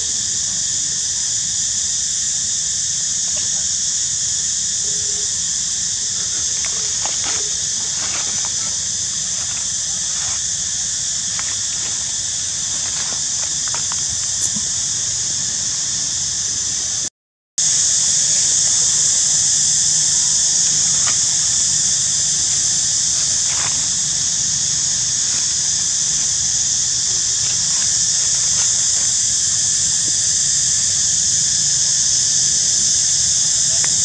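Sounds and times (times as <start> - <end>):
cicadas droning: 0.0 - 34.0.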